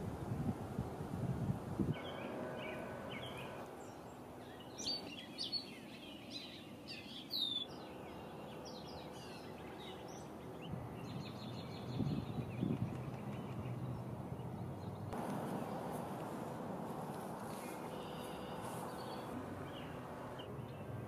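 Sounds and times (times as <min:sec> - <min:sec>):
small songbirds chirping: 0:02.0 - 0:16.3, 0:17.0 - 0:21.0.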